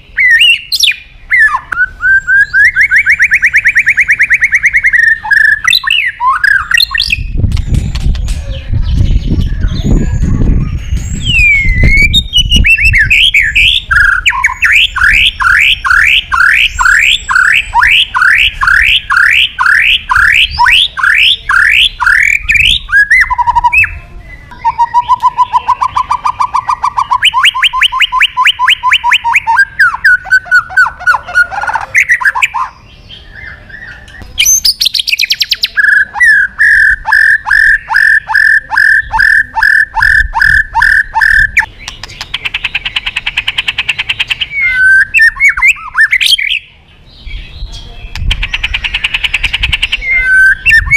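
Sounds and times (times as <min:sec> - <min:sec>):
shama bird singing: 0:00.0 - 0:50.9.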